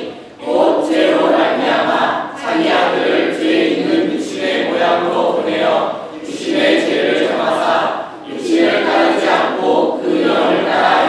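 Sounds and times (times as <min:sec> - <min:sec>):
group reciting in unison: 0:00.0 - 0:11.0.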